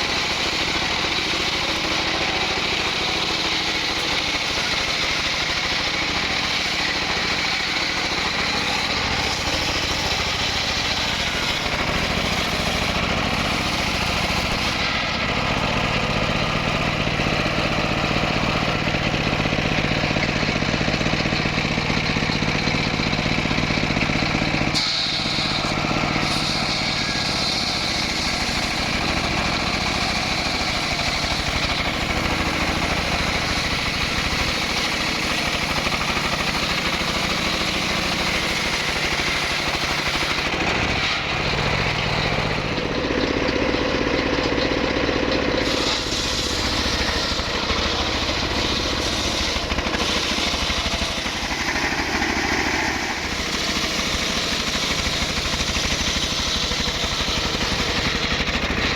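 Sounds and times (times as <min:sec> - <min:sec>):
saw engine running: 0:00.0 - 0:58.9.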